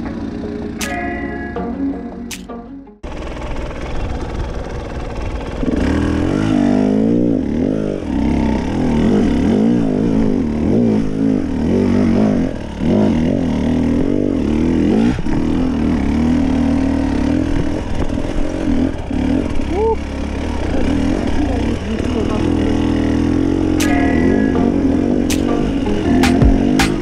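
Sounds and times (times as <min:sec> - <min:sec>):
dirt bike engine revving: 0:03.1 - 0:27.0.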